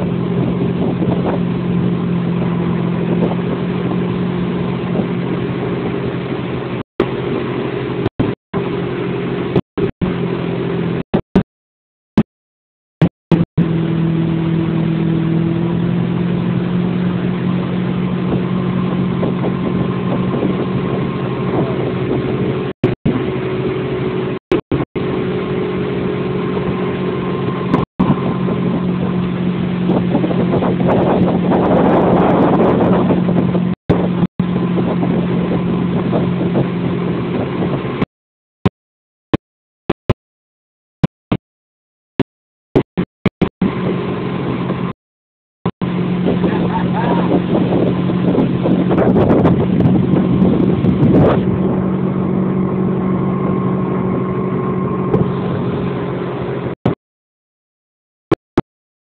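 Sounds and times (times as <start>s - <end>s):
motorboat engine running: 0.0s - 11.5s, 13.0s - 40.2s, 42.1s - 45.0s, 45.6s - 57.0s.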